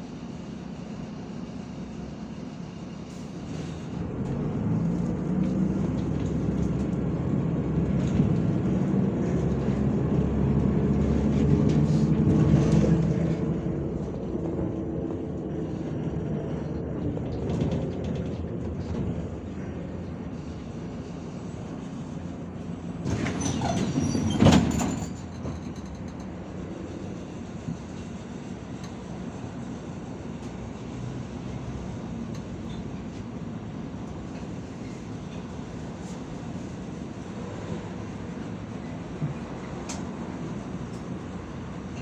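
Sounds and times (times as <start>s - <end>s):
bus engine and road drone: 0.0s - 42.0s.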